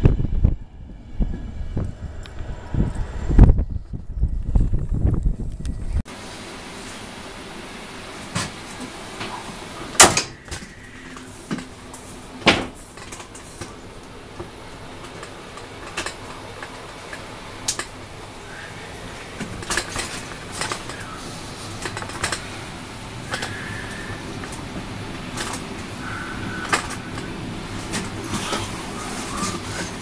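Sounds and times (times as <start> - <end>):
train carriage rolling: 0.0 - 30.0.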